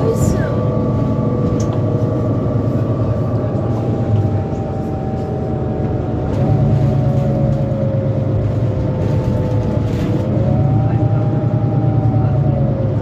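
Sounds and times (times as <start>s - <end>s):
bus diesel engine rumble: 0.0s - 13.0s
drivetrain whine: 0.0s - 13.0s.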